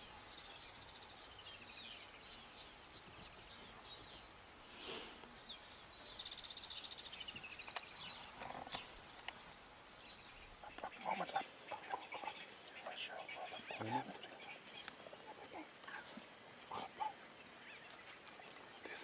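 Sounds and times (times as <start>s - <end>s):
rustle: 0.0s - 19.0s
wild birds chirping: 0.0s - 19.0s.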